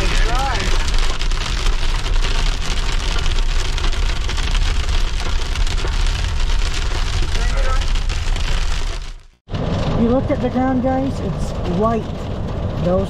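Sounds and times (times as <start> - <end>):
hail and rain on car roof: 0.0 - 13.0
low rumble: 0.0 - 13.0.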